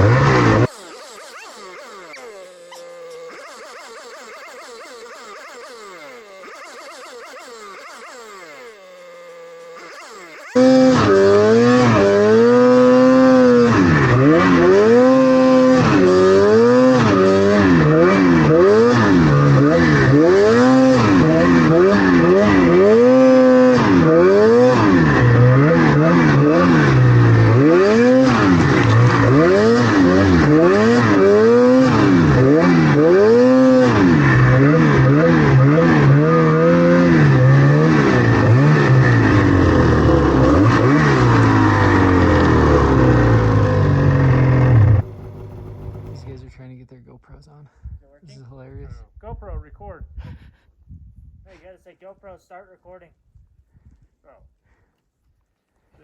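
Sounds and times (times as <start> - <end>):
snowmobile engine revving: 0.0 - 46.6.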